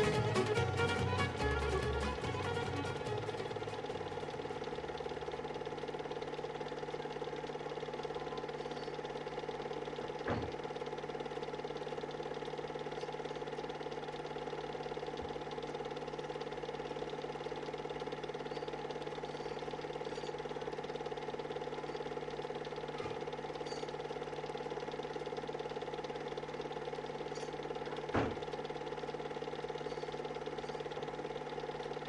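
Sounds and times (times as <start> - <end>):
film projector whirring and clattering: 0.0 - 32.0.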